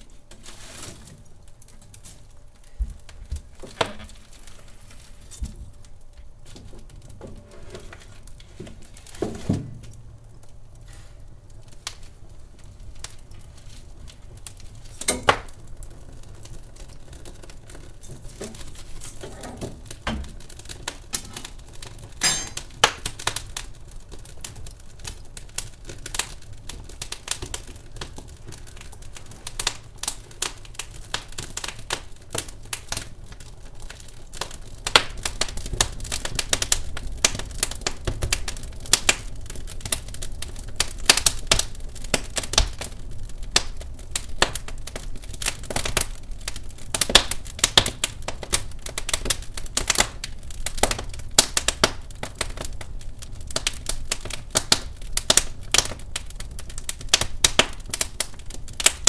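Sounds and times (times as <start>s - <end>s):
logs crackling in a fireplace: 0.0s - 59.0s.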